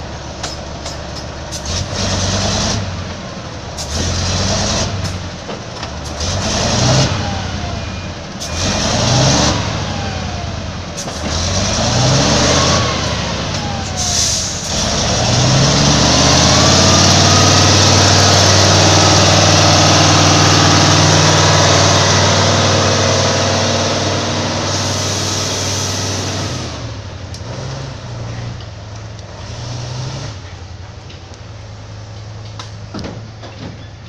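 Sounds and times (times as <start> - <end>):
truck engine revving: 0.9 - 32.9.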